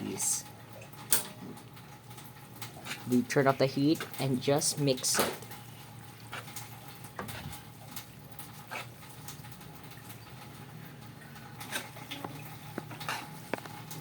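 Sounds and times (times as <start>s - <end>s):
spoons mixing wet noodles: 2.4s - 14.0s.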